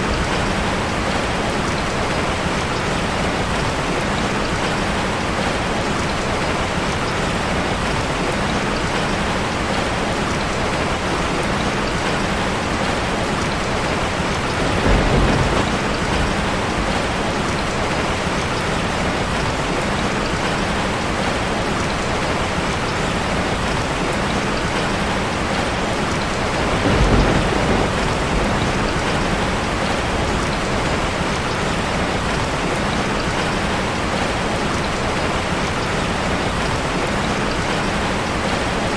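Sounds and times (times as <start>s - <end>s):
rain drumming on a metal roof: 0.0s - 38.9s.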